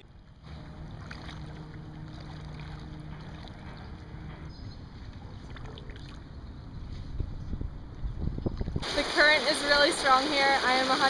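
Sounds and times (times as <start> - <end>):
wind rumble on microphone: 0.0 - 9.8
motorboat engine humming: 0.0 - 11.0.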